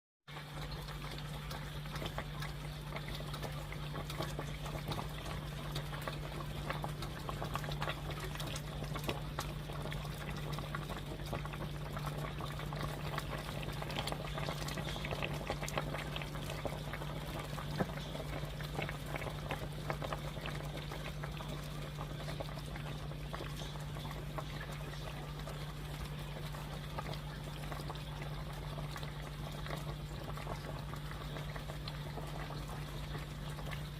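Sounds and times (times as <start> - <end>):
food bubbling and crackling: 0.3 - 33.9.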